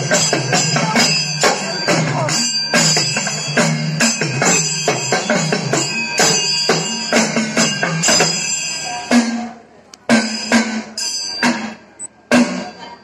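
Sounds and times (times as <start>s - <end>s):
cymbals ringing: 0.0s - 13.0s.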